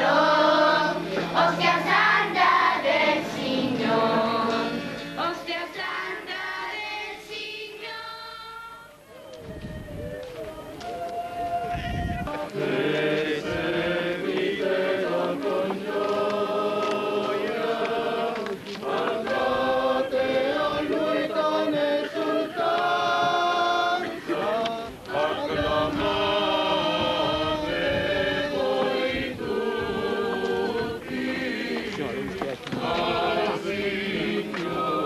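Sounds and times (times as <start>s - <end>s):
small choir singing a hymn: 0.0s - 9.0s, 10.4s - 35.0s.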